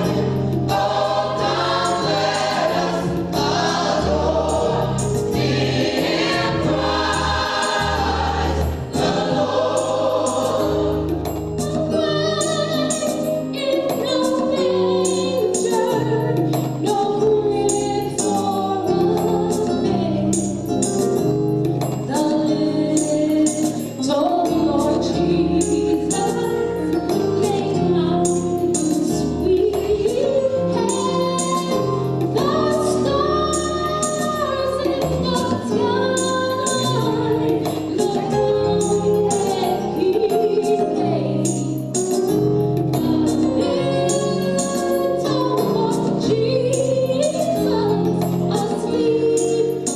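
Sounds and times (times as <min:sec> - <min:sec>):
choir singing gospel music: 0:00.0 - 0:20.5, 0:27.4 - 0:46.8
instrumental accompaniment with beat: 0:00.0 - 0:49.9.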